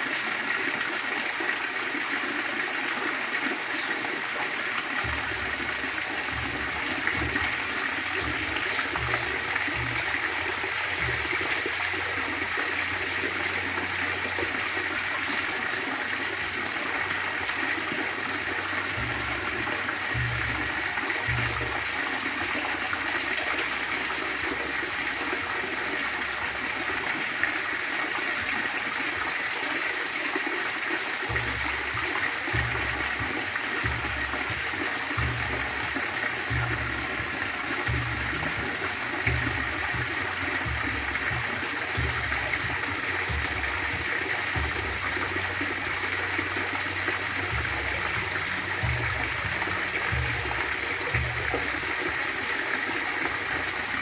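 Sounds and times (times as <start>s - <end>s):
waterfall rushing: 1.4s - 54.0s.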